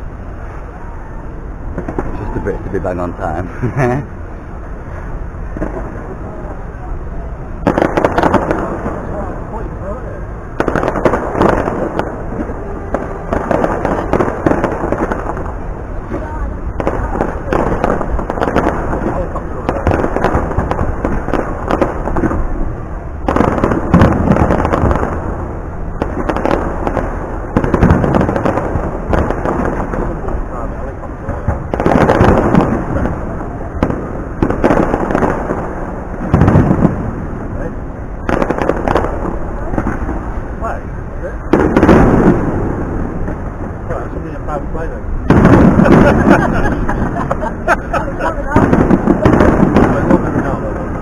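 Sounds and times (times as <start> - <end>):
fireworks bangs and crackles: 1.5 - 51.0.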